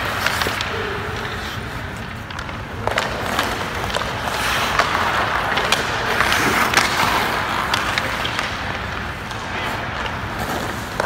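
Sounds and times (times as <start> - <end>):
hockey stick hitting puck: 0.0 - 11.0
skates scraping on ice: 0.0 - 11.0.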